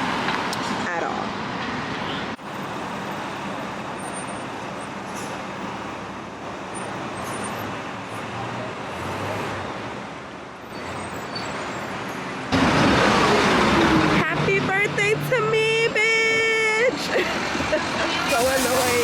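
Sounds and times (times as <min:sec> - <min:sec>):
street traffic hum: 0:00.0 - 0:19.0.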